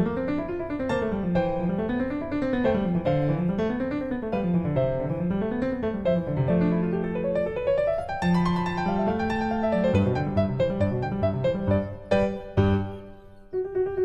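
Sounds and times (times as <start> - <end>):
piano playing arpeggios: 0.0 - 14.0.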